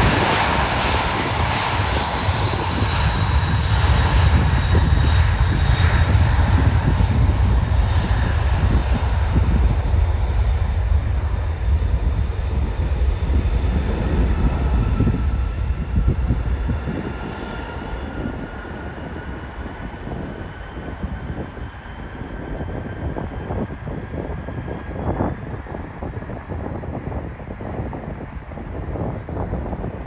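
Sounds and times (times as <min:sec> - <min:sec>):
jet engines rumbling: 0:00.0 - 0:30.0
turbine whine: 0:00.0 - 0:30.0
wind buffeting microphone: 0:00.0 - 0:30.0.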